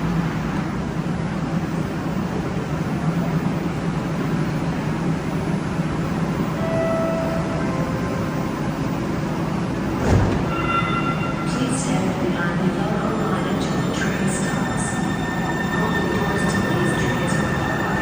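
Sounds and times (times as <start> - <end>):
light rail train rumbling: 0.0 - 18.0.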